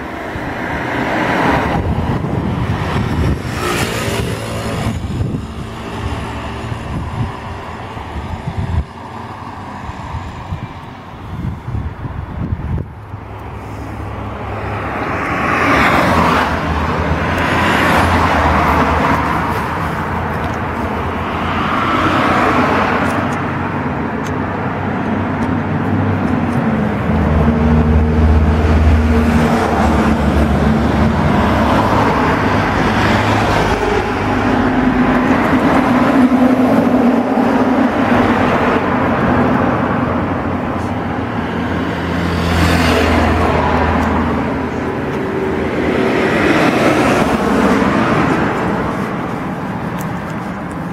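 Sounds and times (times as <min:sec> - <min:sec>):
bus engine running: 0:00.0 - 0:50.9
road noise: 0:00.0 - 0:50.9.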